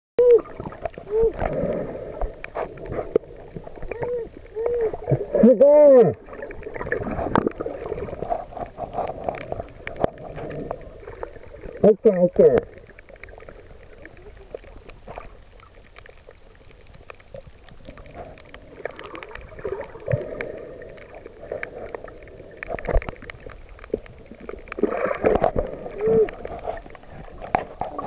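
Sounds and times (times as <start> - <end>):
underwater clicks: 0.2 - 5.4, 6.2 - 28.0
underwater gurgling and bubbling: 0.2 - 28.0.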